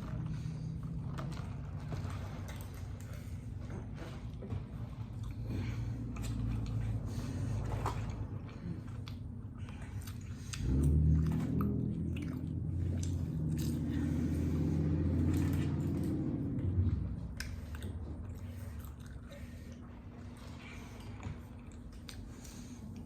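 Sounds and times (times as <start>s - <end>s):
chewing and biting food: 0.0s - 23.0s
low hum: 0.0s - 23.0s.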